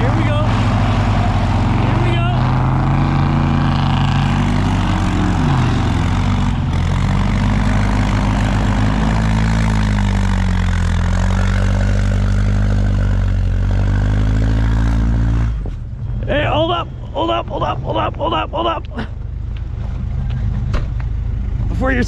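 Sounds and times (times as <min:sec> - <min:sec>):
heavy machine engine revving: 0:00.0 - 0:19.1.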